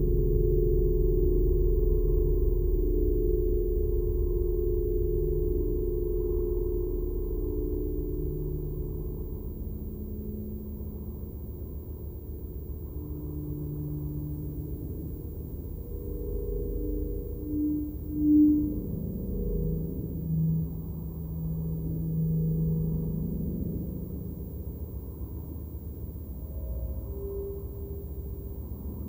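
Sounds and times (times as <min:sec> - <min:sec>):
deep low hum: 0:00.0 - 0:25.2
pure low tones: 0:00.0 - 0:25.2.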